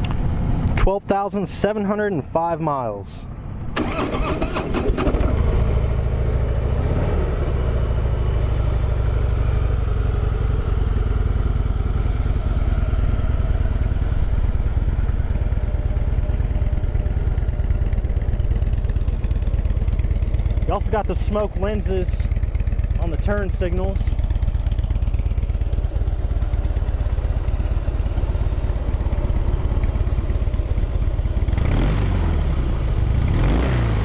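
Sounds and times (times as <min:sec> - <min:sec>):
motorcycle engine starting and idling: 0:03.3 - 0:34.0.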